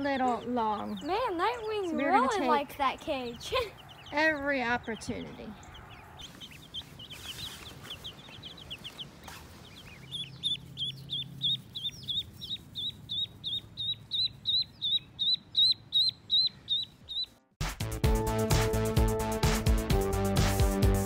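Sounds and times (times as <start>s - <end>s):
duckling peeping: 0.0s - 17.4s.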